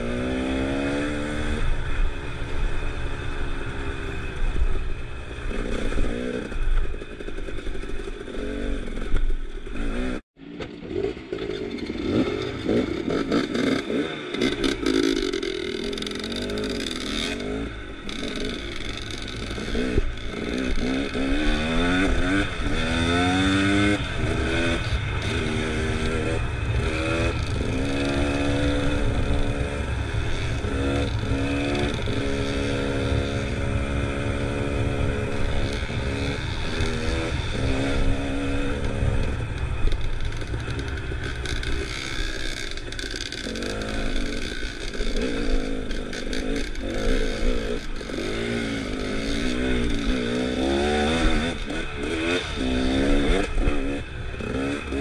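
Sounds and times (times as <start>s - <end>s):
dirt bike engine revving: 0.0s - 10.2s, 10.8s - 55.0s.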